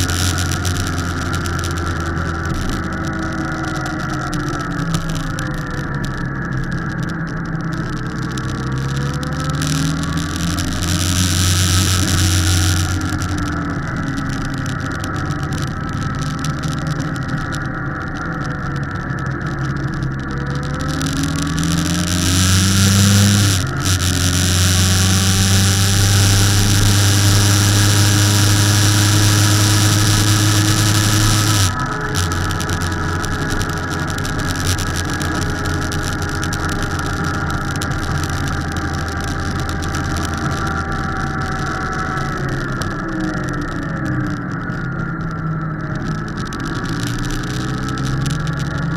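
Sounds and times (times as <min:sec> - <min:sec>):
motorcycle engine: 0:00.0 - 0:48.9
wind rushing over microphone: 0:00.0 - 0:48.9.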